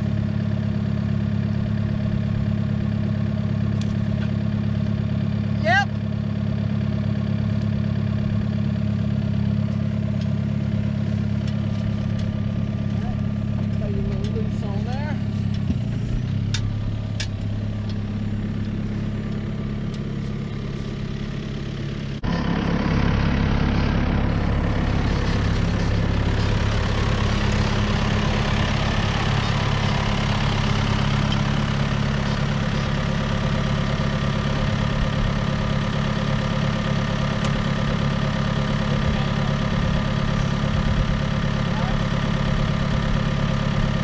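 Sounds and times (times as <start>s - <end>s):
tractor diesel engine idling: 0.0s - 44.0s.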